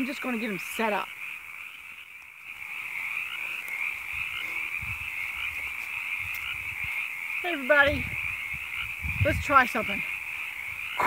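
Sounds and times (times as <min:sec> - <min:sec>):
chorus of frogs calling: 0:00.0 - 0:11.0.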